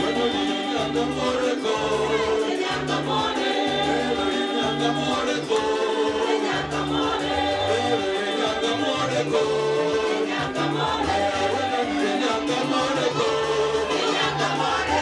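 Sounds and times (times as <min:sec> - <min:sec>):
gospel choir singing: 0:00.0 - 0:15.0
repeating bass line: 0:00.0 - 0:15.0.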